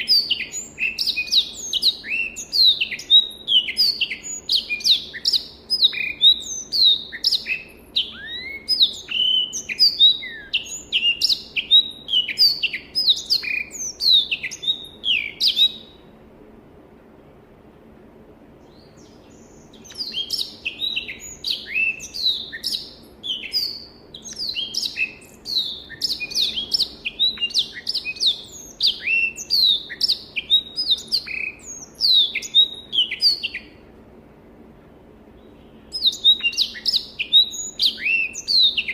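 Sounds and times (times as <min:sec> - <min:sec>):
canary singing: 0:00.0 - 0:16.0, 0:18.7 - 0:33.8, 0:35.6 - 0:38.9.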